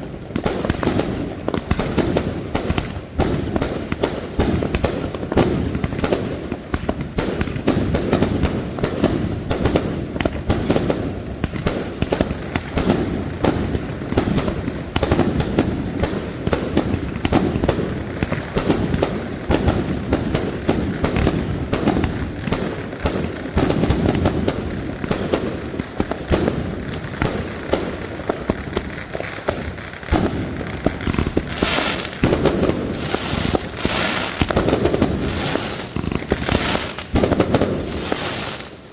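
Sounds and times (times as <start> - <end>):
crackling hiss: 0.0 - 38.9
fireworks banging and popping: 0.0 - 38.9.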